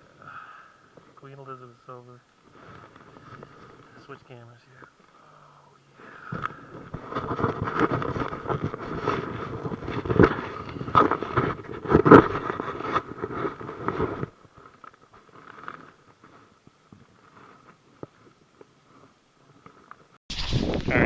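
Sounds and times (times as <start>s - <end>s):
camera handling rubbing and crackling: 0.9s - 5.2s, 5.9s - 20.2s.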